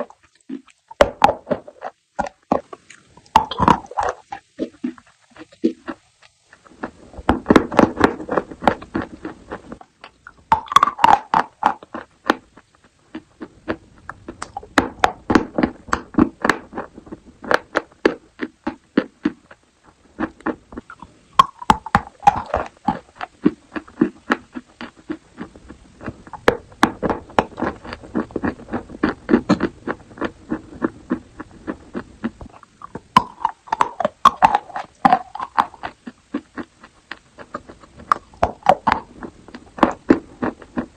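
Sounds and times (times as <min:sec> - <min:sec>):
chalk crunching when chewed: 0:00.0 - 0:40.9.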